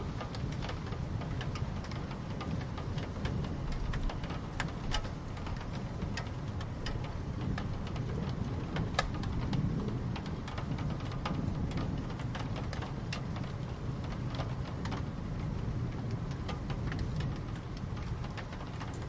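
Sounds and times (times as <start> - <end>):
continuous low rumble: 0.0 - 19.0
rain drops tapping close by: 0.0 - 19.0.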